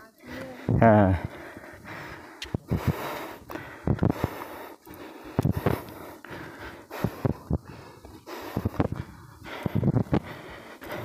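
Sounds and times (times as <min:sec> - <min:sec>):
person breathing heavily: 0:00.1 - 0:11.0.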